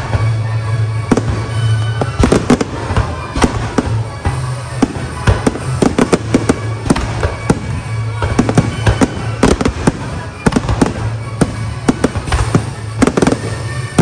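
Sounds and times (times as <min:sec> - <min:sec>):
fireworks bangs and crackles: 0:00.0 - 0:14.0
music playing: 0:00.0 - 0:14.0.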